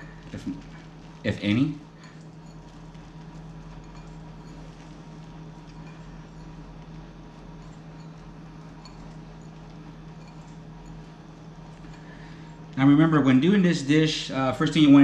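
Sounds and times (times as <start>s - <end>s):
sugar crumbling and sprinkling: 0.0s - 13.1s
steady low hum: 0.0s - 15.0s.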